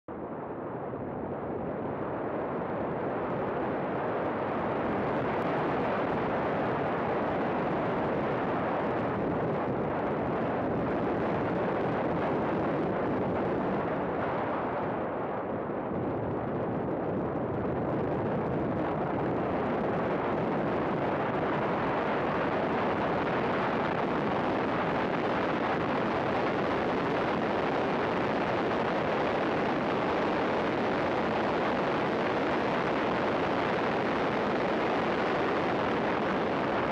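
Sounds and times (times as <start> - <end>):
wind buffeting microphone: 1.3 - 36.9.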